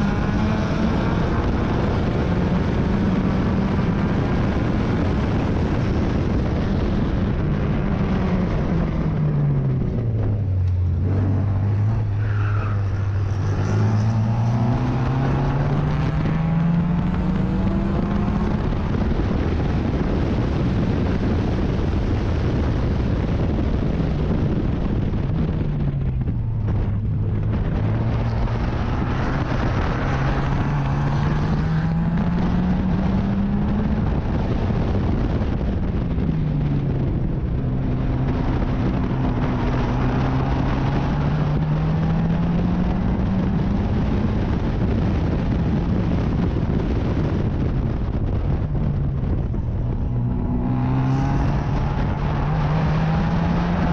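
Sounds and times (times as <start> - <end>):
racing car engine: 0.0 - 53.9.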